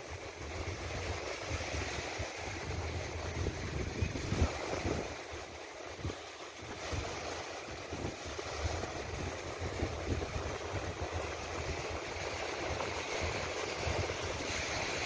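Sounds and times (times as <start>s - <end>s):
small waves breaking on shore: 0.0s - 15.0s
wind buffeting microphone: 0.0s - 15.0s.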